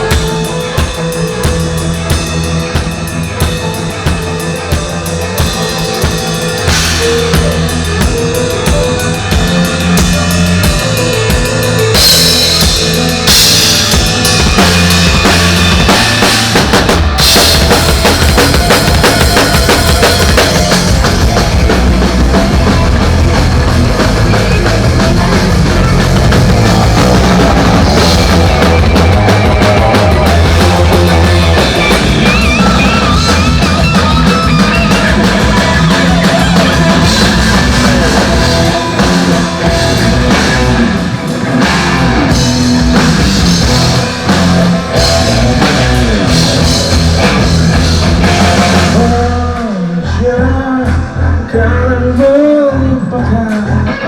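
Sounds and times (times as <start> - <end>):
bass: 0.0 - 54.0
drum kit: 0.0 - 54.0
electric guitar: 0.0 - 54.0
wavering lead guitar line: 0.0 - 54.0.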